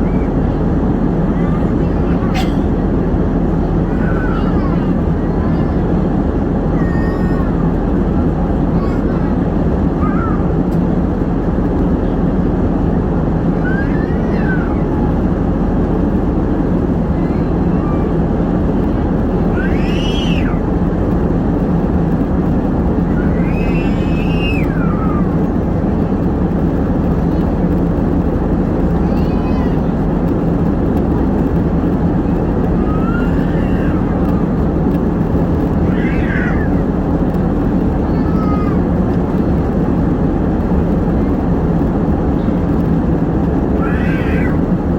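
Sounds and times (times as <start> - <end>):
airliner cabin engine rush: 0.0 - 44.9.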